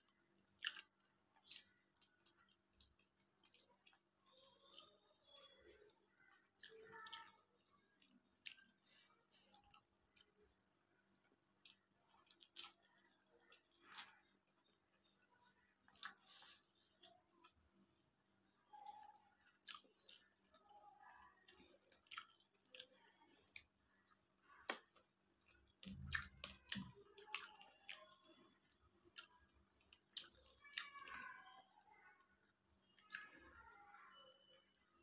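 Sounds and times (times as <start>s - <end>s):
chewing and wet mouth clicks: 0.0s - 10.5s, 11.6s - 14.8s, 15.8s - 17.6s, 18.4s - 31.2s, 32.4s - 33.4s.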